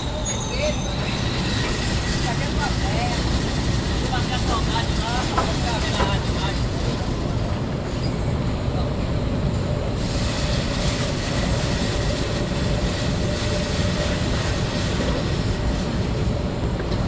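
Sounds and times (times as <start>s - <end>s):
machinery rumble and clatter: 0.0s - 17.0s.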